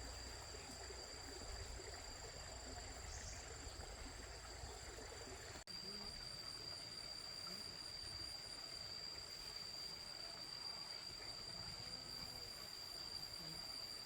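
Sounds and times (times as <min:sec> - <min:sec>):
insect chorus: 0:00.0 - 0:14.0.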